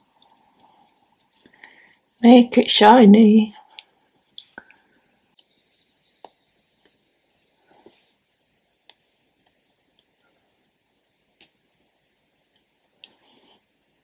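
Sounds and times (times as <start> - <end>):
soft brushing hiss: 0.0 - 14.0.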